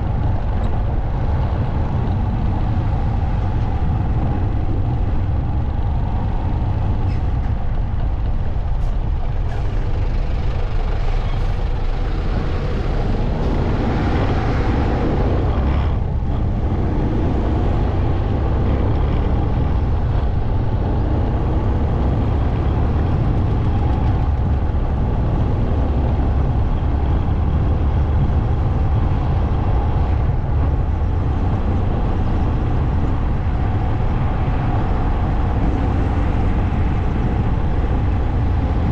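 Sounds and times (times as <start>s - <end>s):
motorcycle engine rumble: 0.0s - 38.9s
road noise: 0.0s - 38.9s.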